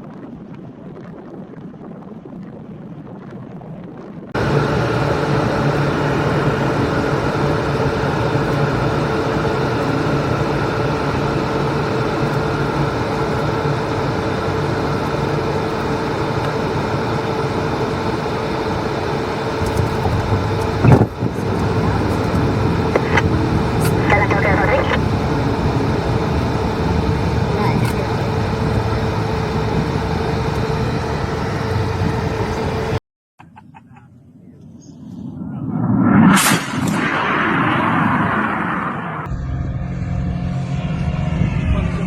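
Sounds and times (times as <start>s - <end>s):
aircraft engine and airflow: 0.0s - 42.0s.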